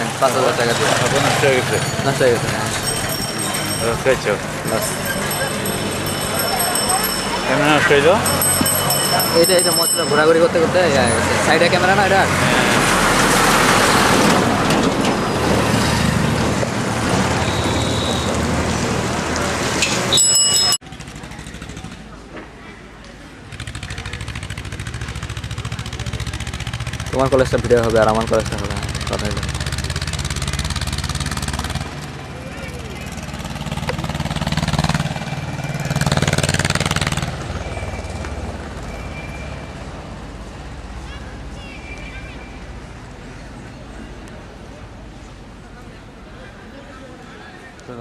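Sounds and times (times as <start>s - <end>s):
vehicle engine and road noise: 0.0s - 48.0s.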